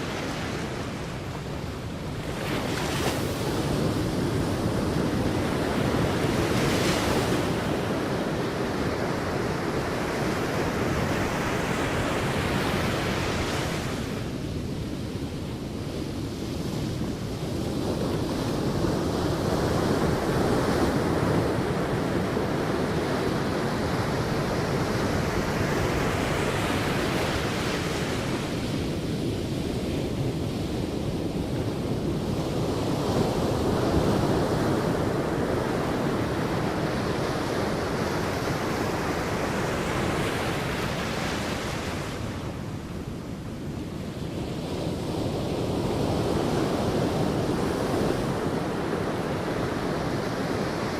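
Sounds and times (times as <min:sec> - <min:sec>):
sea waves breaking on beach: 0:00.0 - 0:50.9.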